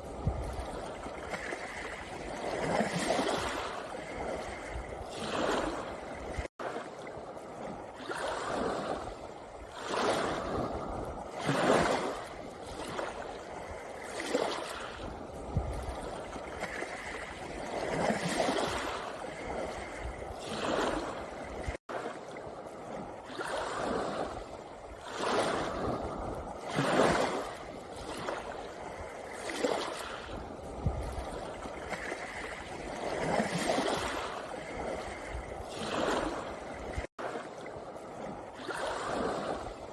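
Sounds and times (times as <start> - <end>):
waves washing over pebbles: 0.0 - 39.9.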